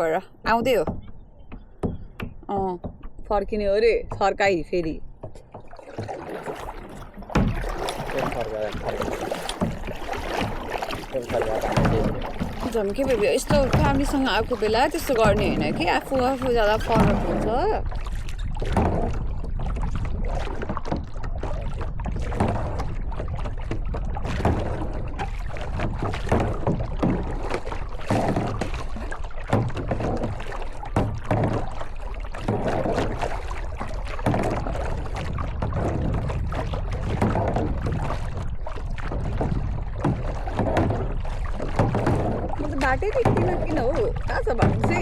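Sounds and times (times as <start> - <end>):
paddle strokes splashing in water: 0.0 - 45.0
wind rumble on microphone: 0.0 - 45.0.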